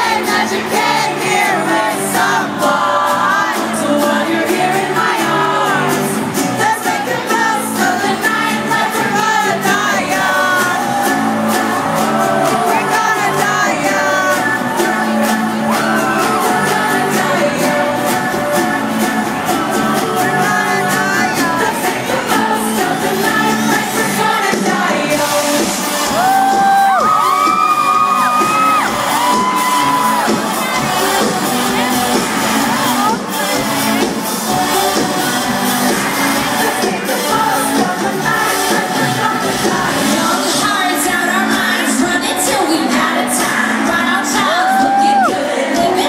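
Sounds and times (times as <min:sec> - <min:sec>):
amplified pop backing music: 0:00.0 - 0:46.0
woman singing: 0:00.0 - 0:46.0.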